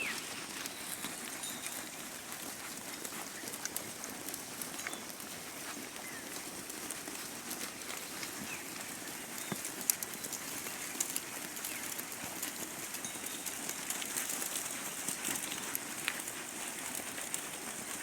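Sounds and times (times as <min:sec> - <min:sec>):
small irregular clicks and taps: 0:00.1 - 0:18.0.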